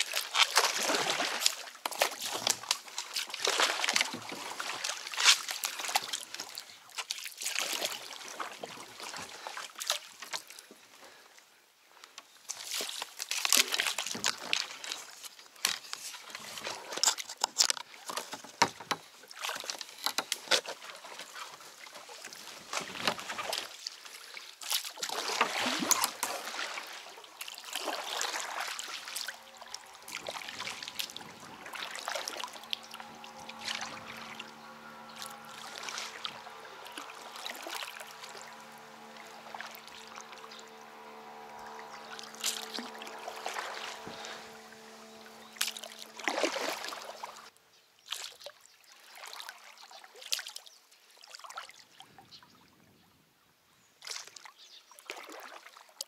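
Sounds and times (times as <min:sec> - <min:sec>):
water sloshing around a boat: 0:00.0 - 0:52.7, 0:53.9 - 0:56.0.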